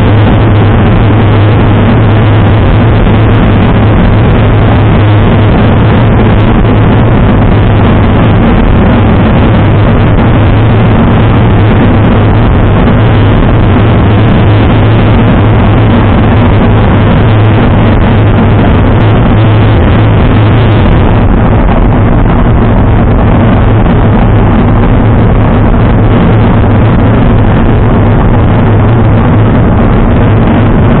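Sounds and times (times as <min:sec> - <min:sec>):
low rumble: 0:00.0 - 0:31.0
wind noise on microphone: 0:00.0 - 0:31.0.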